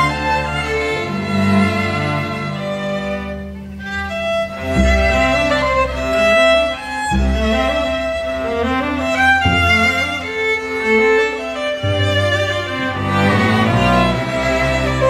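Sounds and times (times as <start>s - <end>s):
deep bass notes: 0.0s - 15.0s
string ensemble playing: 0.0s - 15.0s
violin melody: 0.0s - 15.0s.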